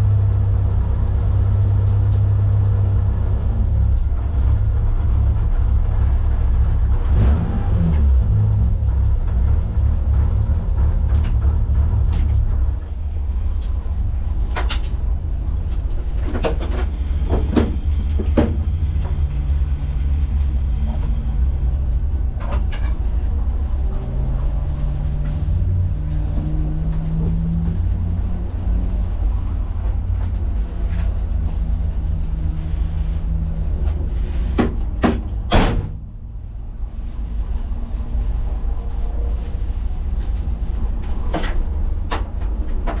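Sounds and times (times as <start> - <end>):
car engine low rumble: 0.0 - 43.0.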